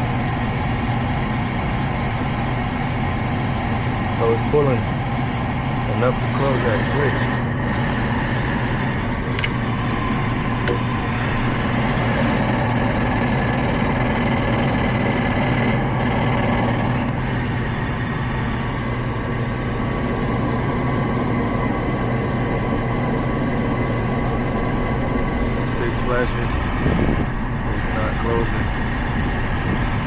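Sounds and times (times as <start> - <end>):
furnace motor humming and whining: 0.0 - 30.0.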